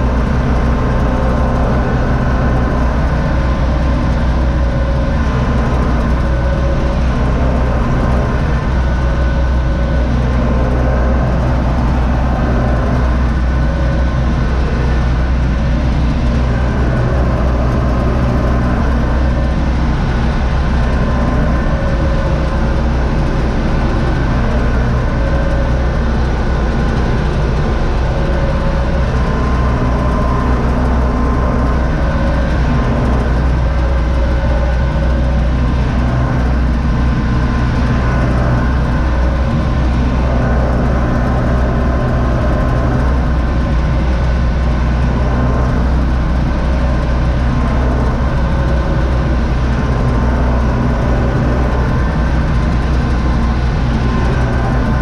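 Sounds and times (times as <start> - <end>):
corn picker humming: 0.0 - 55.0
tractor diesel engine drone: 0.0 - 55.0.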